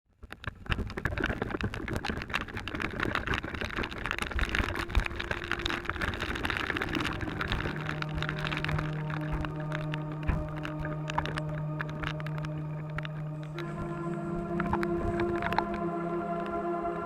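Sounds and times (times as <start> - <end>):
torrential rain: 0.2 - 17.0.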